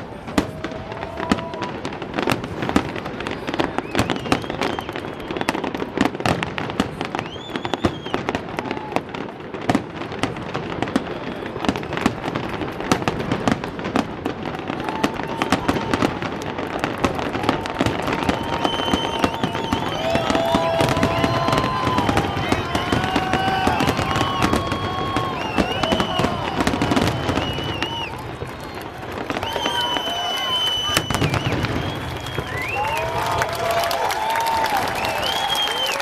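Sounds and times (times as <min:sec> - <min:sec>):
fireworks crackling and banging: 0:00.0 - 0:36.0
fireworks whistling: 0:00.0 - 0:36.0.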